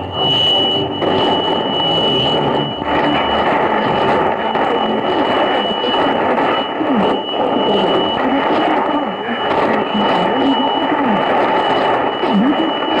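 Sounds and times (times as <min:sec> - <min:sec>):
radio static hiss: 0:00.0 - 0:13.0
steady high whistle: 0:00.0 - 0:13.0.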